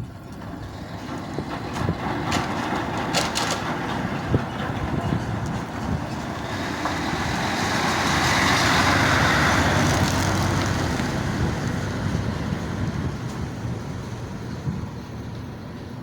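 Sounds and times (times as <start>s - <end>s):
heavy vehicle engine rumble: 0.0s - 16.0s.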